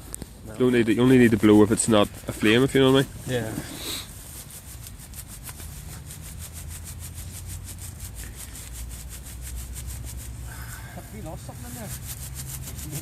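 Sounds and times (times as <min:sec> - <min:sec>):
fast rasping strokes: 0:00.3 - 0:13.0.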